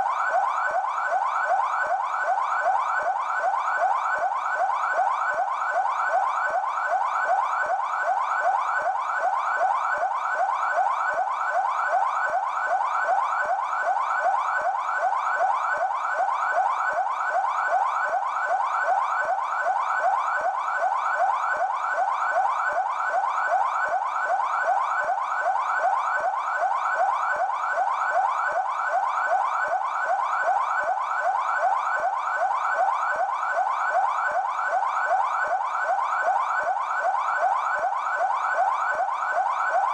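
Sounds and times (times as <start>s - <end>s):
siren yelp tone: 0.0s - 39.9s.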